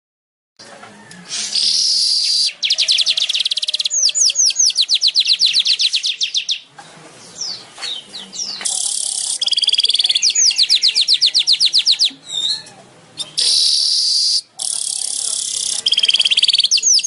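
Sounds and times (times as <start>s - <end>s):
weaver bird song: 1.3s - 17.0s.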